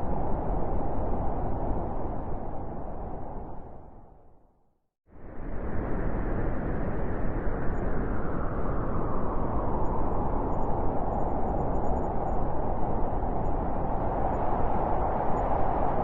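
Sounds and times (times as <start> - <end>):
blizzard wind through forest: 0.0 - 16.0.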